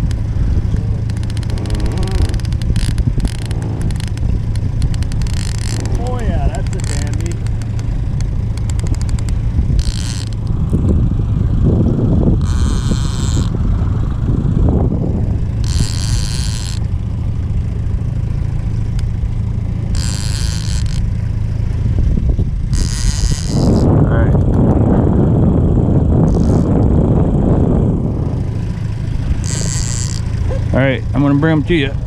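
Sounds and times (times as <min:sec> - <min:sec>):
boat motor humming: 0:00.0 - 0:32.0.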